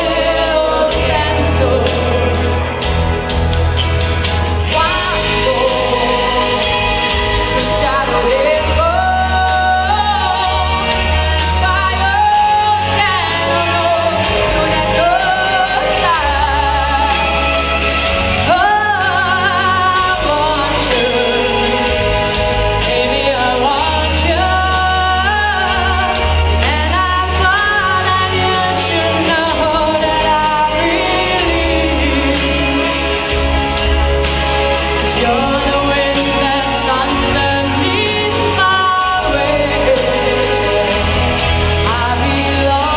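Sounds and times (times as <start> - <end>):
person singing a melody: 0.0 - 3.3, 4.6 - 33.9, 34.9 - 42.9
instrumental backing with bass: 0.0 - 42.9.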